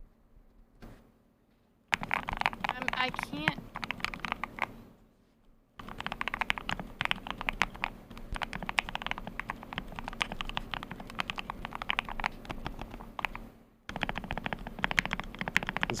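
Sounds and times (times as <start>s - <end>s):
mechanical keyboard typing: 1.9s - 4.7s, 5.8s - 16.0s.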